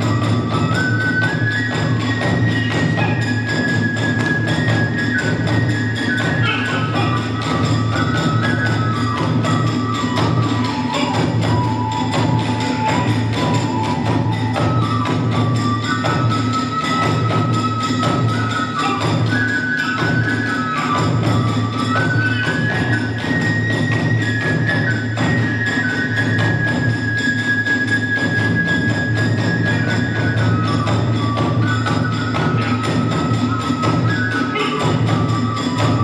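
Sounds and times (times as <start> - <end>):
taiko drums beating: 0.0 - 36.0
transverse flute melody: 0.0 - 36.0.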